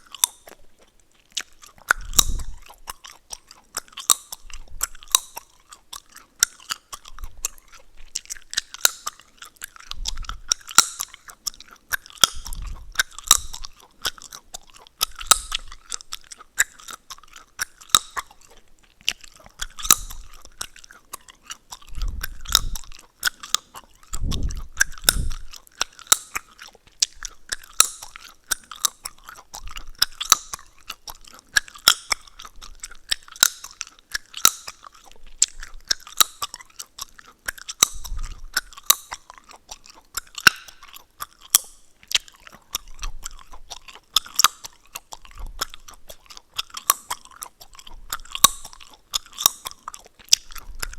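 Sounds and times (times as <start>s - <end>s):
gum chewing: 0.0s - 50.9s
gum crackling and snapping: 0.0s - 50.9s.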